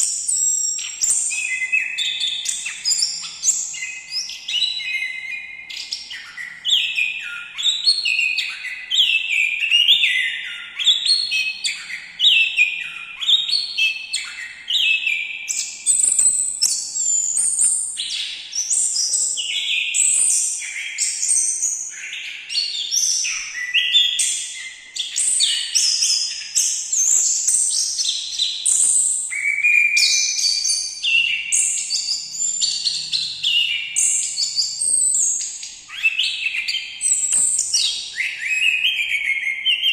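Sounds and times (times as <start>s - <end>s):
thrush singing whistled phrases: 0.0s - 39.9s.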